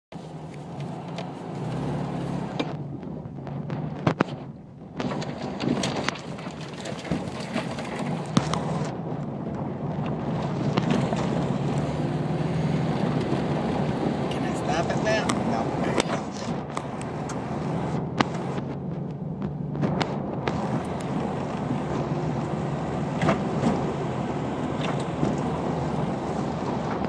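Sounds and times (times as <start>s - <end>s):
car engine running: 0.1s - 27.0s
car body rattling over bumps: 0.2s - 27.0s.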